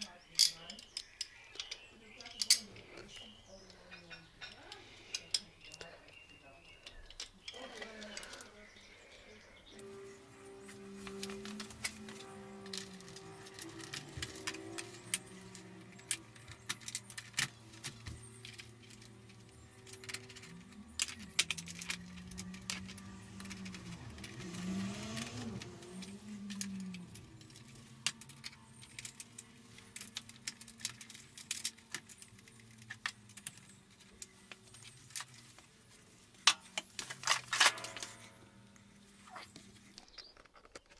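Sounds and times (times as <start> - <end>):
metal parts and tools clinking: 0.0 - 8.9, 9.7 - 40.9.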